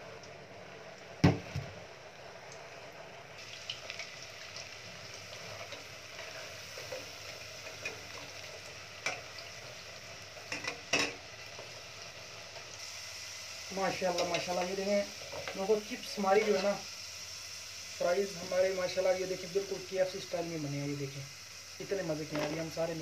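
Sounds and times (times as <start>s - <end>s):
fries sizzling in oil: 0.0s - 23.0s.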